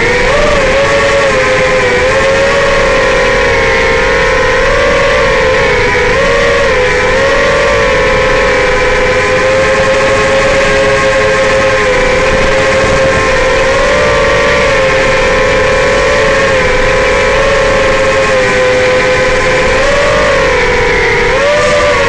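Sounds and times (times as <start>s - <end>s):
drone motors whining: 0.0s - 22.0s
rushing noise: 0.0s - 22.0s.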